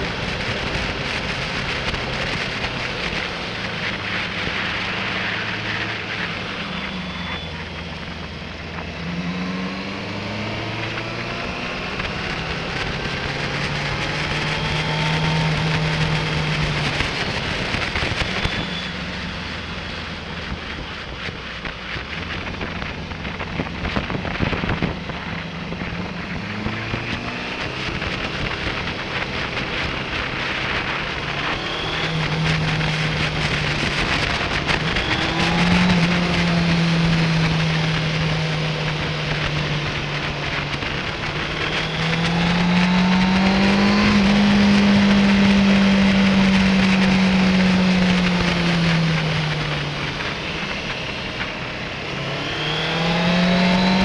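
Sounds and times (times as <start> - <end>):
motorcycle engine revving: 0.0 - 54.0
wind buffeting microphone: 0.0 - 54.0.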